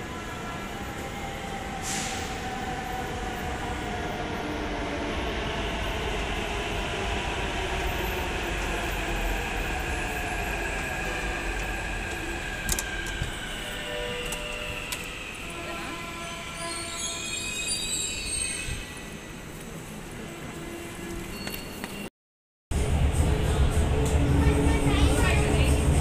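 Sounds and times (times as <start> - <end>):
metro train whine and rumble: 0.0 - 22.0, 22.7 - 26.0.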